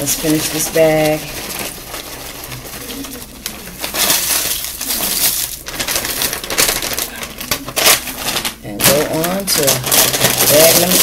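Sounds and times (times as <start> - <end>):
plastic chip bag crinkling: 0.0 - 11.0.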